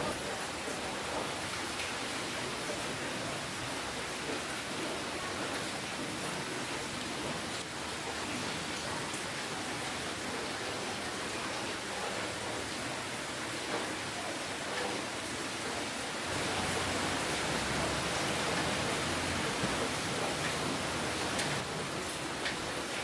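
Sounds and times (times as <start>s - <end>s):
patter of raindrops: 0.0s - 23.0s
steady rain hissing: 0.0s - 23.0s.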